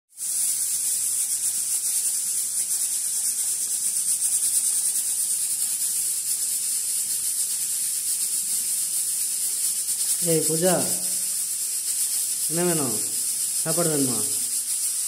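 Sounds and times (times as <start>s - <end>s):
pressure cooker hissing: 0.2s - 15.0s.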